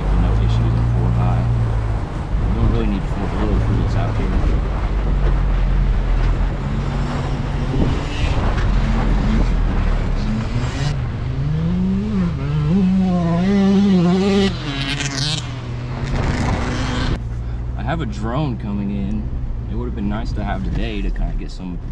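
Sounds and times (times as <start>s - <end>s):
pickup engine droning: 0.0s - 21.9s.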